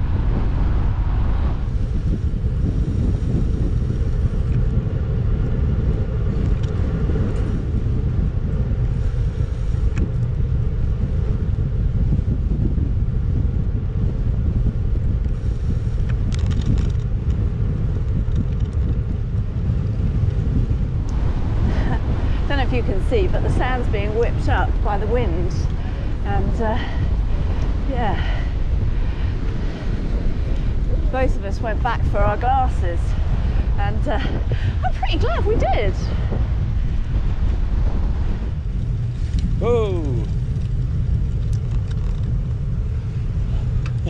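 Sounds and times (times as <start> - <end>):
road buzz through bicycle frame: 0.0 - 44.0
wind buffeting microphone: 0.0 - 44.0.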